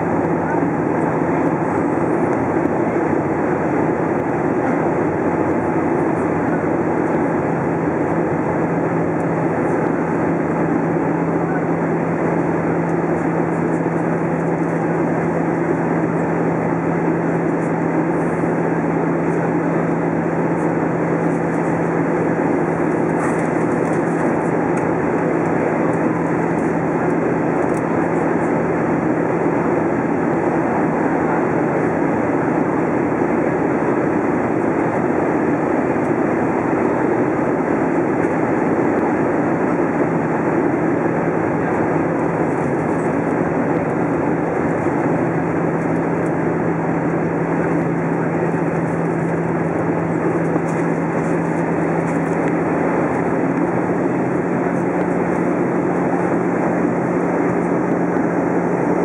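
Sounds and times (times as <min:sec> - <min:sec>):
aircraft cabin engine rush: 0:00.0 - 0:59.0.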